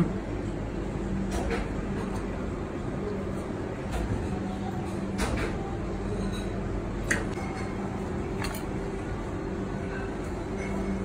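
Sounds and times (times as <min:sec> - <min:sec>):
kitchen equipment hum: 0:00.0 - 0:11.0.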